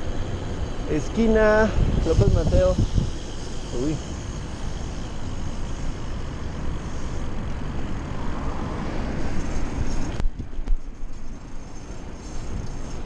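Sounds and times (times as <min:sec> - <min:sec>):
road traffic: 0:00.0 - 0:13.0
wind rushing over microphone: 0:00.7 - 0:13.0.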